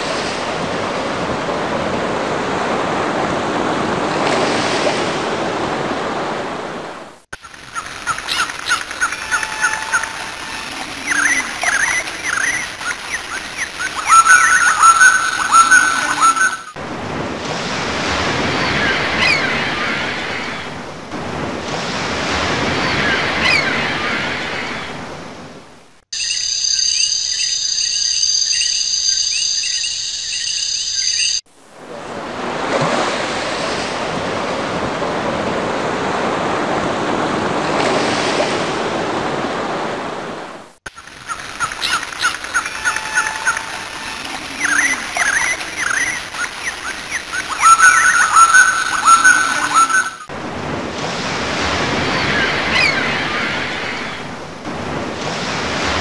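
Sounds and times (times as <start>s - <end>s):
ocean waves washing in: 0.0s - 26.0s, 31.0s - 56.0s.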